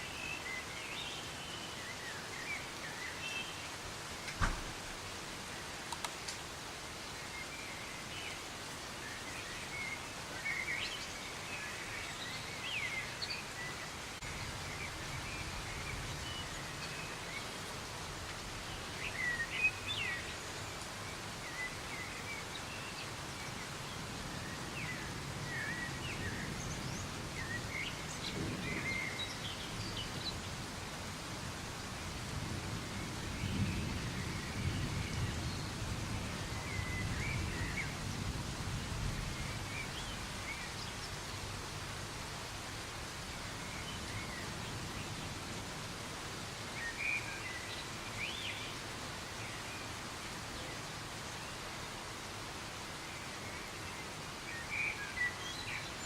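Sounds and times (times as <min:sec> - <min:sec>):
soft rain hiss: 0:00.0 - 0:56.0.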